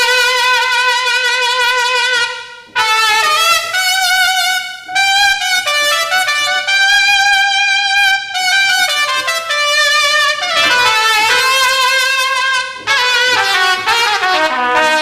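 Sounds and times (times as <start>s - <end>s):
keyboard brass melody: 0.0s - 15.0s.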